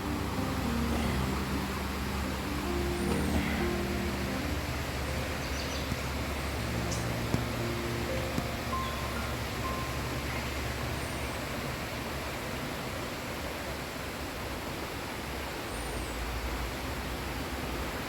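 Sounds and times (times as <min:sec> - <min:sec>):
floodwater rushing in creek: 0:00.0 - 0:18.0.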